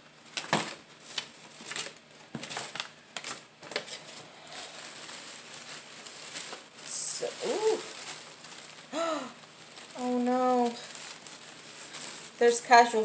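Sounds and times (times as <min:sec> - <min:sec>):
packing paper rustling: 0:00.0 - 0:13.0.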